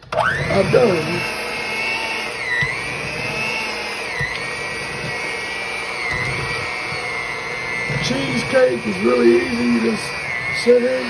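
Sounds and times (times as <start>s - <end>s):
electric mixer whine: 0.0s - 11.0s.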